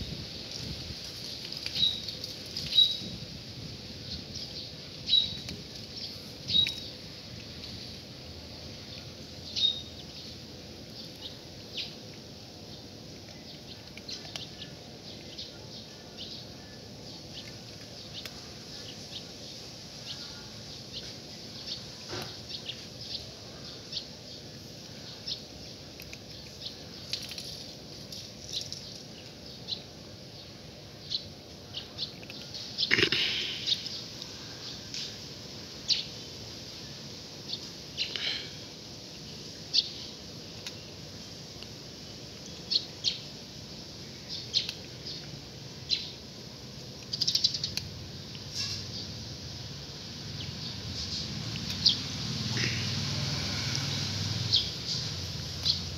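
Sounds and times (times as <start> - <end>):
cats crunching dry kibble: 0.4 - 9.4, 10.0 - 35.8, 37.3 - 48.5, 51.3 - 55.8
birds chirping: 1.3 - 3.3, 3.9 - 49.3, 50.3 - 55.9.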